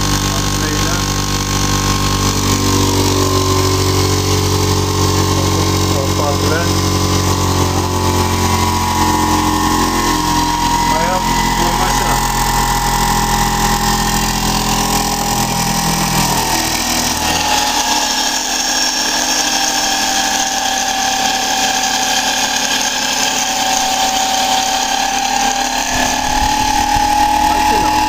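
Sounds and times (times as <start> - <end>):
low hum: 0.0 - 28.0
motor-generator whine: 0.0 - 28.0.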